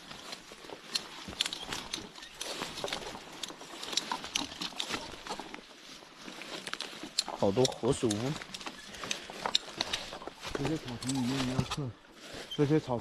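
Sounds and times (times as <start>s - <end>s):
footsteps through grass: 0.0s - 13.0s
leaves and stems rustling: 0.0s - 13.0s.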